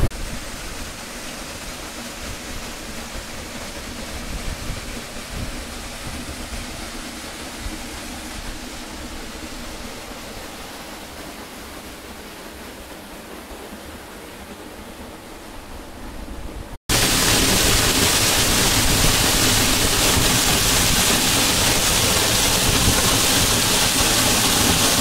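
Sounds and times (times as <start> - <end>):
rushing waterfall: 0.0 - 25.0.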